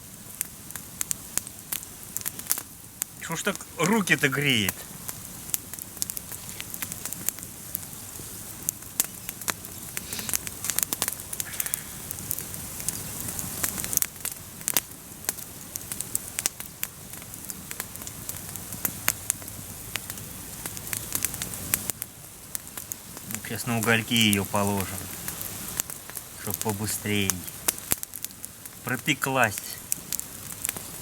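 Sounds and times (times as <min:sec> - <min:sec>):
campfire crackling and popping: 0:00.0 - 0:31.0
steady fire hiss: 0:00.0 - 0:31.0.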